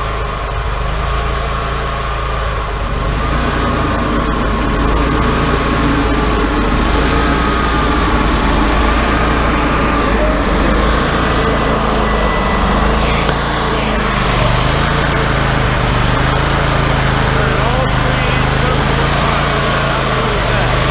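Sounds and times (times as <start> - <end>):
sawmill engine running: 0.0 - 20.9
bandsaw blade sawing log: 3.2 - 20.9.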